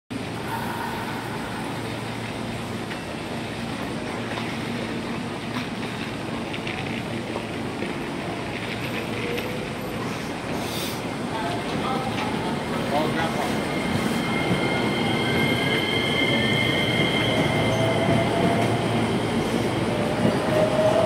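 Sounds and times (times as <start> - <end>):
higher train sound: 0.1 - 21.0
electric train humming: 0.2 - 21.0.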